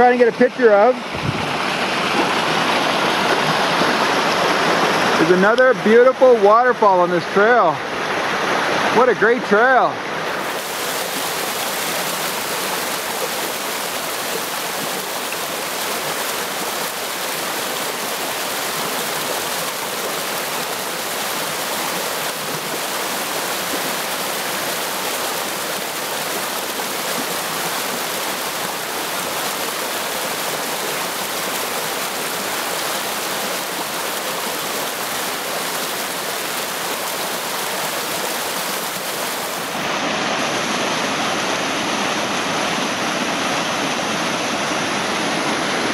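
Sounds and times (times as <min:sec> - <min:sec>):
water rushing over rocks: 0:00.0 - 0:45.9.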